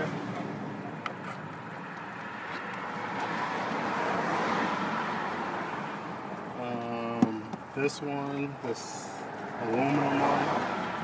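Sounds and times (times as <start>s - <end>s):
vehicle passing: 0.0s - 6.8s, 8.5s - 11.0s.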